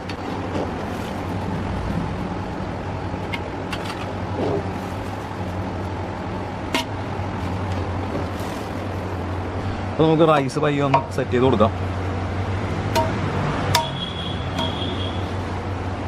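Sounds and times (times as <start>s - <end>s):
steady low rumble: 0.0s - 13.3s.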